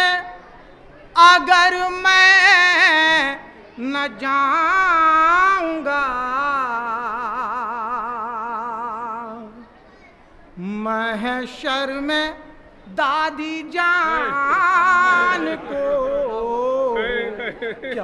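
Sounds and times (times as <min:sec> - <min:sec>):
solo voice chanting a lament: 0:01.1 - 0:09.6, 0:10.6 - 0:18.0.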